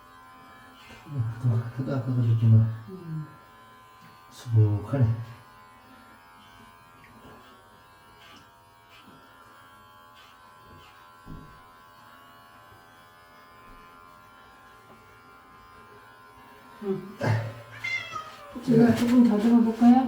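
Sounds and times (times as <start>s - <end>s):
electric hair clippers buzzing: 0.0s - 20.0s.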